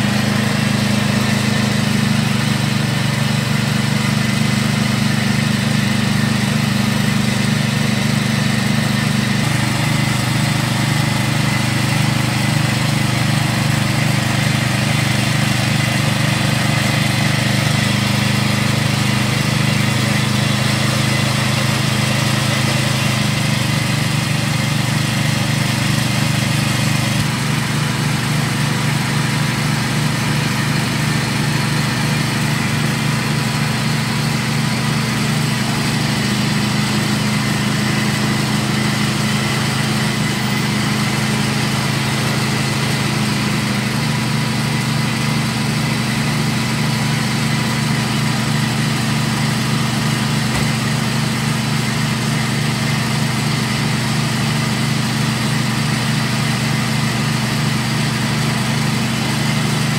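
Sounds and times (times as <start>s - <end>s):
grinding machine drone: 0.0s - 59.9s.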